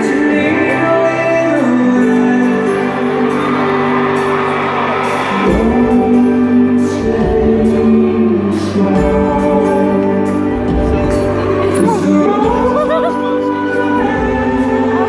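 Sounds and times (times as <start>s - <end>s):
bass guitar: 0.0s - 15.0s
live pop band playing: 0.0s - 15.0s
person singing: 0.0s - 15.0s.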